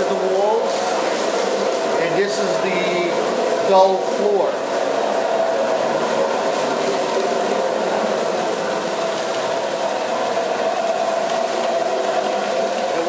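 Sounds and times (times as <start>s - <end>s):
floor grinding machine whirring: 0.0s - 13.0s.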